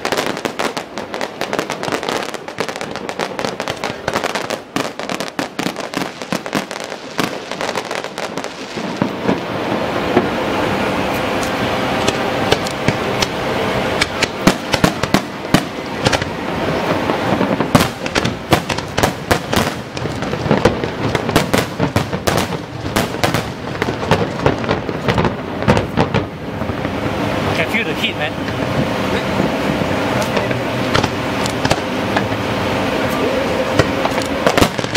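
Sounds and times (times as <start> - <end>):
fireworks crackling and banging: 0.0 - 34.9.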